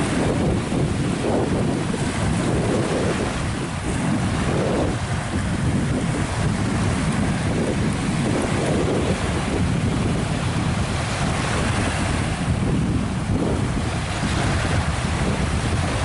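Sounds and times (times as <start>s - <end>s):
sea water and surf rushing: 0.0s - 16.0s
wind buffeting microphone: 0.0s - 16.0s.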